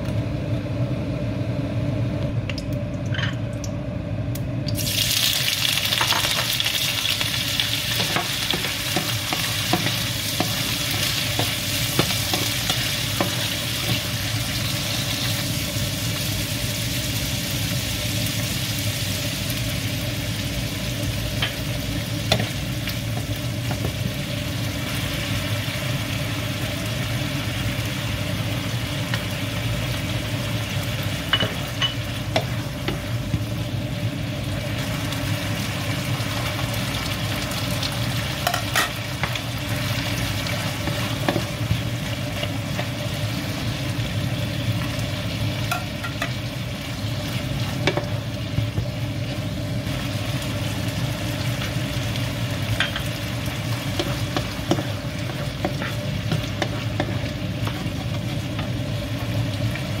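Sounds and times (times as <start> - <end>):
steady low hum: 0.0 - 5.0, 6.0 - 60.0
octopus sizzling in frying pan: 4.7 - 60.0.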